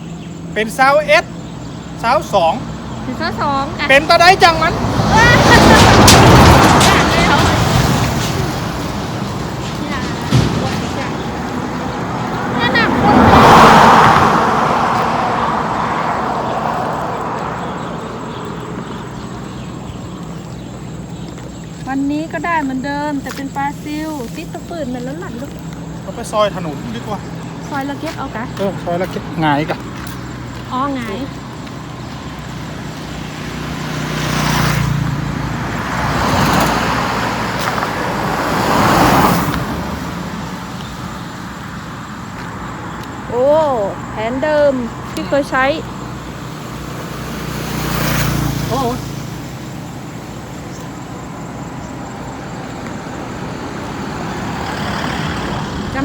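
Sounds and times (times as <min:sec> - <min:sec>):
road vehicle passing by: 0:00.1 - 0:56.0.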